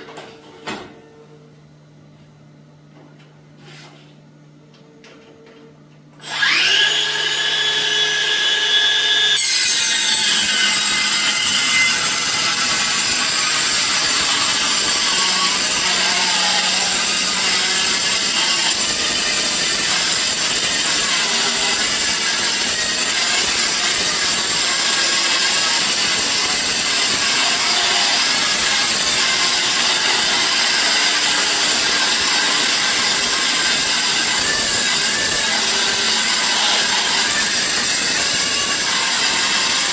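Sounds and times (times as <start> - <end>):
circular saw whining: 6.2 - 39.9
saw cutting metal sheet: 6.2 - 39.9.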